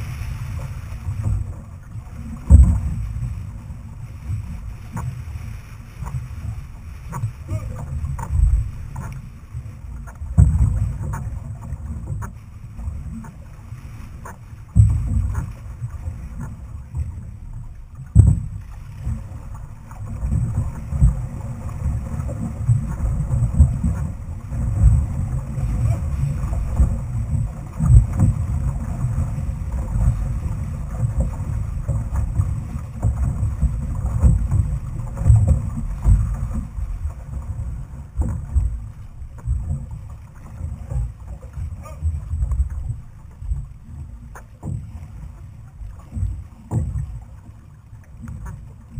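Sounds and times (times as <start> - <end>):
wind buffeting camera: 0.0 - 13.5, 14.1 - 45.1
water rumbling along canoe hull: 0.0 - 48.9.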